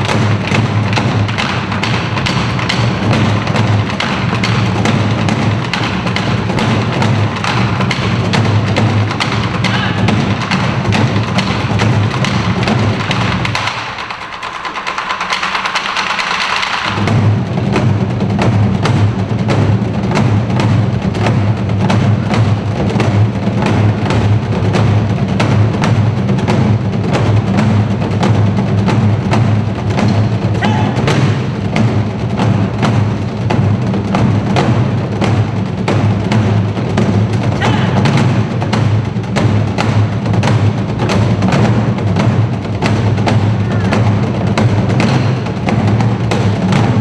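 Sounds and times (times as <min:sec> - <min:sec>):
hourglass drums playing fast rhythm: 0:00.0 - 0:47.0.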